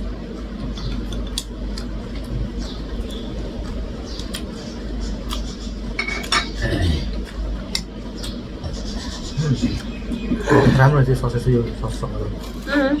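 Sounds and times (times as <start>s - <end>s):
steady low hum: 0.0s - 13.0s
person eating: 0.3s - 10.8s.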